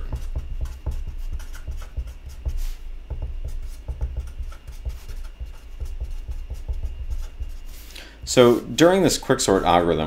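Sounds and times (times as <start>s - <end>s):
marker writing on paper: 0.0s - 8.7s.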